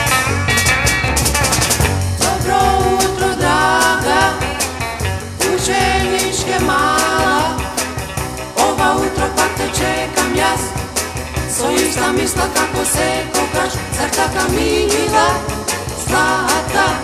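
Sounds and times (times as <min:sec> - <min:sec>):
rock and roll band playing: 0:00.0 - 0:17.0.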